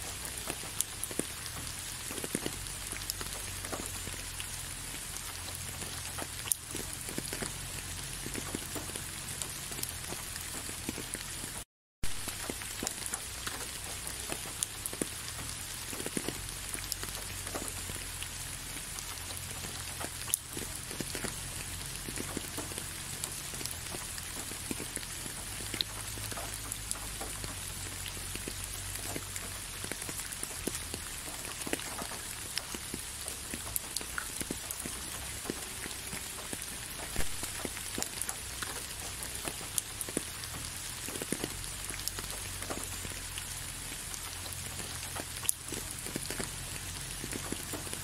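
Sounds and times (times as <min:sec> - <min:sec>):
raindrops tapping: 0:00.0 - 0:48.0
steady rain hiss: 0:00.0 - 0:48.0.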